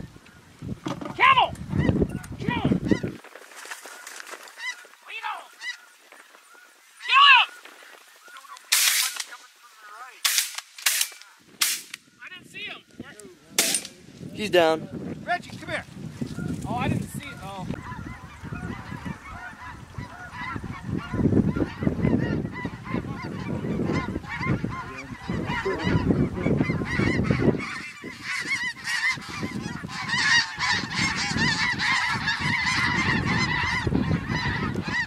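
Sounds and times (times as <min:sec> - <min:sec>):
wind rumbling on microphone: 0:00.0 - 0:04.8, 0:11.4 - 0:35.0
geese calling: 0:00.0 - 0:13.8, 0:16.2 - 0:35.0.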